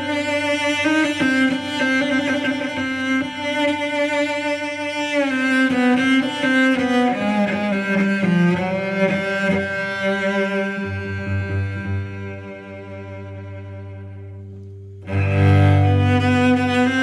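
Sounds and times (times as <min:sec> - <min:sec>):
music with gliding held notes: 0:00.0 - 0:17.0.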